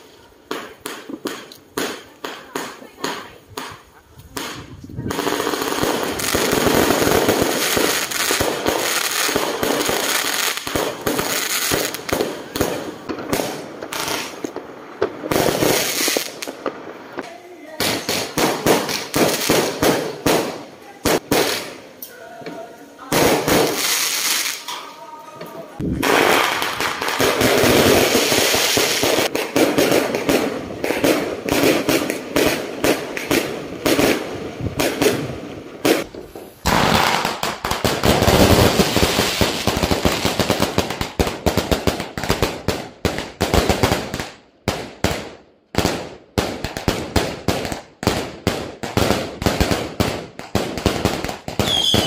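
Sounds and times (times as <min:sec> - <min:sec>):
fireworks crackling bangs: 0:00.0 - 0:52.0.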